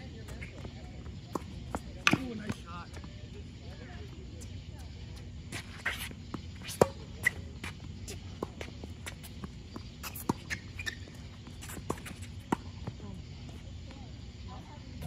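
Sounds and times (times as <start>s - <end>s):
tennis shoes squeaking: 0.0s - 15.0s.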